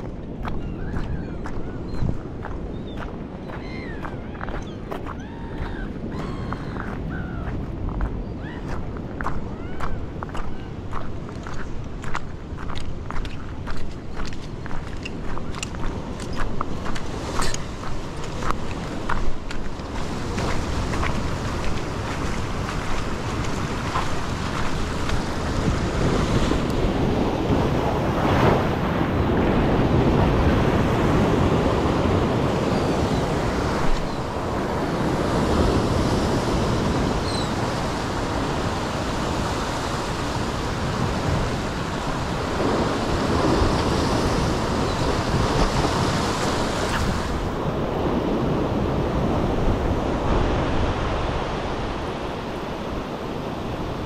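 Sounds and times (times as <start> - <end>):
wind buffeting microphone: 0.0 - 54.0
ocean surf washing against rocks: 5.0 - 54.0.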